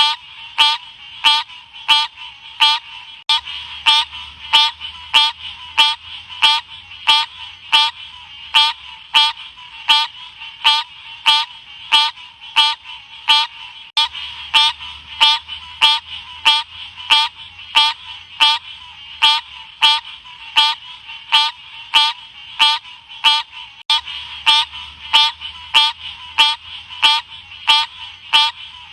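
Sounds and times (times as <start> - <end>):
frog calling: 0.0 - 28.9.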